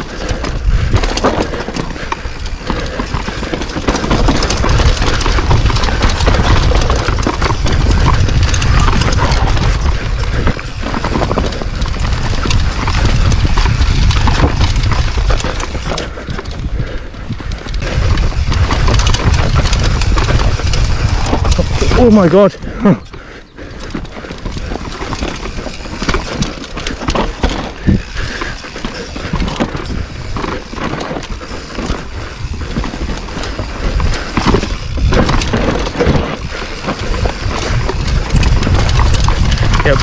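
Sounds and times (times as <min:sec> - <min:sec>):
bike rattling and knocking: 0:00.0 - 0:40.0
tyres rumbling over dirt: 0:00.0 - 0:40.0
wind rumble on microphone: 0:00.0 - 0:40.0.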